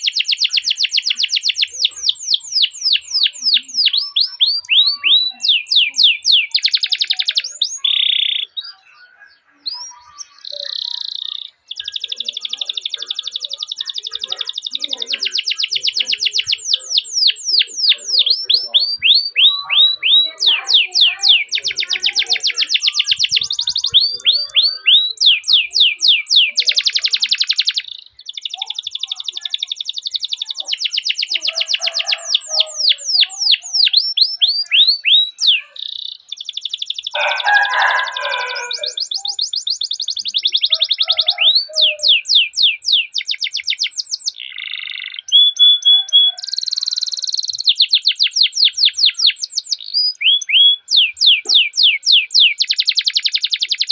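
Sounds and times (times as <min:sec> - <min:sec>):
canary singing: 0:00.0 - 0:53.9.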